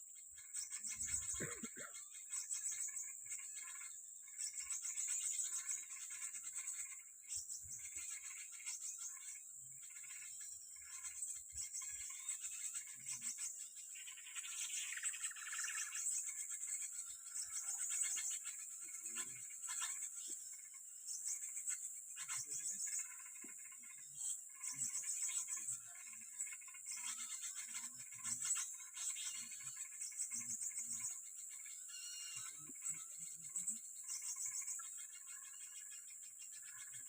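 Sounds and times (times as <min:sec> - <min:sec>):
small birds chirping: 0:00.0 - 0:37.0
high-pitched insect buzz: 0:00.5 - 0:37.0.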